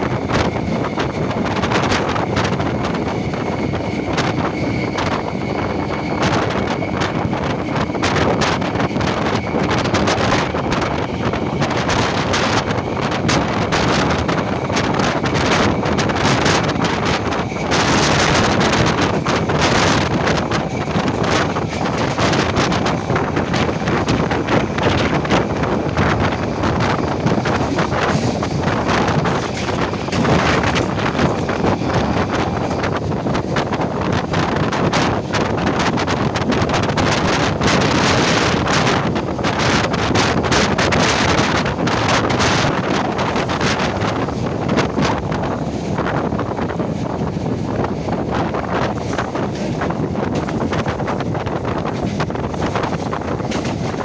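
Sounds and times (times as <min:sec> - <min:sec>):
electric train running: 0:00.0 - 0:54.0
wind buffeting microphone: 0:00.0 - 0:54.0.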